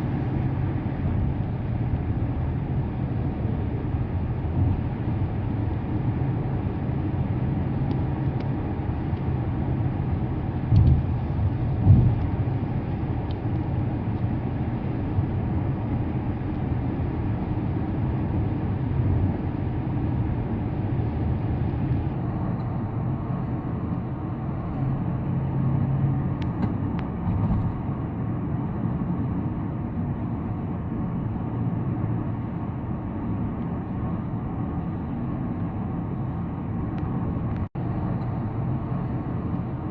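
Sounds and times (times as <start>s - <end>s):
tyres and engine rumble: 0.0s - 39.9s.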